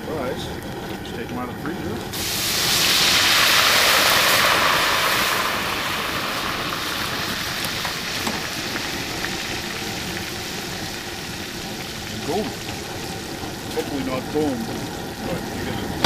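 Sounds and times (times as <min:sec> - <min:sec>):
oil sizzling: 0:00.0 - 0:16.0.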